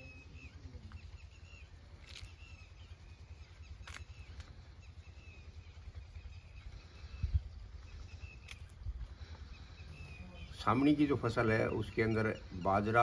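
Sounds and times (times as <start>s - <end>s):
small birds chirping: 0.0s - 13.0s
steady low rumble: 0.4s - 12.7s.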